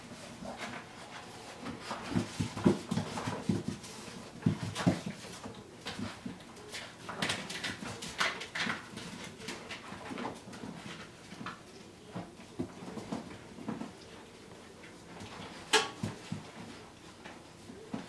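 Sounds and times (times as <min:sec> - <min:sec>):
paws scuffling and tapping: 0:00.0 - 0:18.0.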